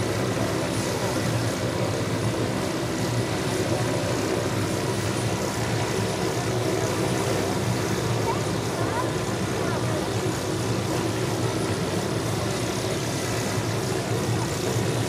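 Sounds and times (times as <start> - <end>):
helicopter turbine and rotor noise: 0.0 - 15.0.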